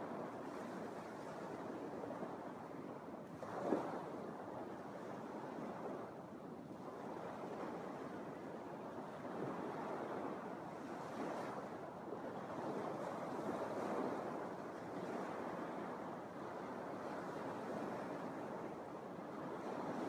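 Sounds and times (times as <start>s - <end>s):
waves washing onto beach: 0.0s - 20.0s.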